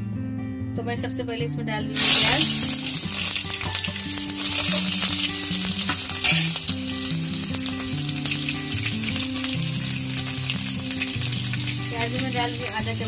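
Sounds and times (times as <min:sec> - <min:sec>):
onions sizzling in hot oil: 0:02.0 - 0:13.0.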